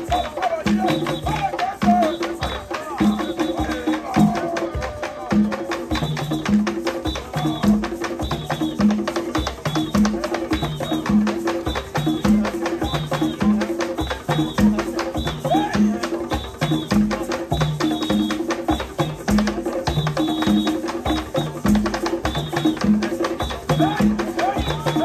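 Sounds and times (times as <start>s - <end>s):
hand drum ensemble playing: 0.0s - 25.0s.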